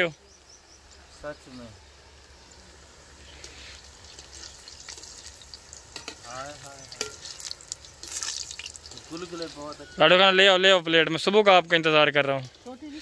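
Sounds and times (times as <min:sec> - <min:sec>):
deep-frying sizzle in oil: 0:01.8 - 0:13.0.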